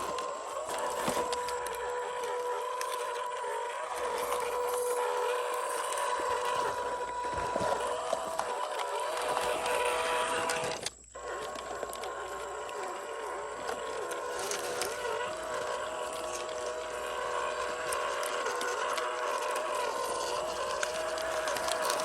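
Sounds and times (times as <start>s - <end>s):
electric motor and gearbox whining: 0.0s - 22.0s
tyres crunching on rough ground: 0.0s - 22.0s.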